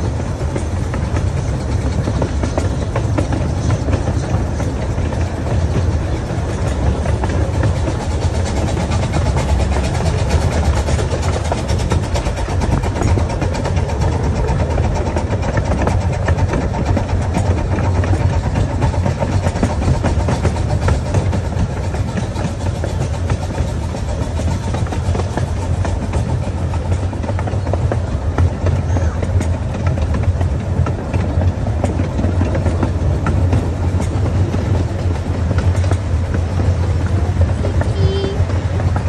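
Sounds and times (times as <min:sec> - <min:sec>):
miniature train rumbling on track: 0:00.0 - 0:39.0.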